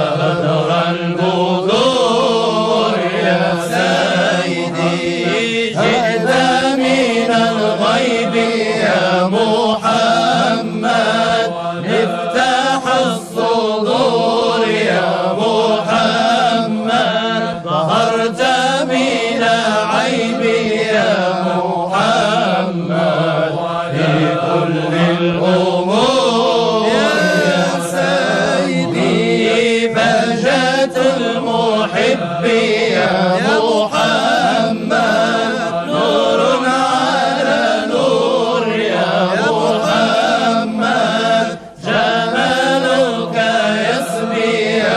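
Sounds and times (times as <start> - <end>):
person chanting devotional song: 0.0 - 44.9.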